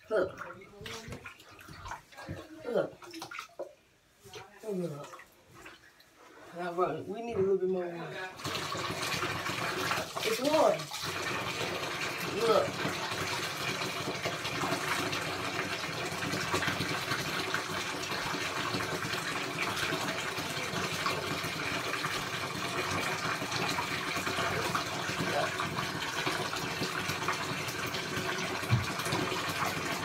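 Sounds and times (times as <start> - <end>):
water pouring into a tub: 0.0 - 6.8, 8.0 - 30.0.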